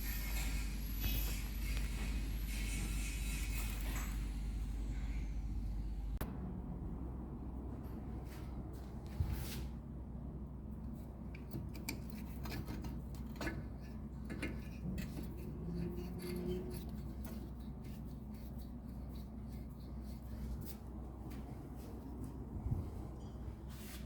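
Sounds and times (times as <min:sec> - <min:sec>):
low hum: 0:00.0 - 0:23.8.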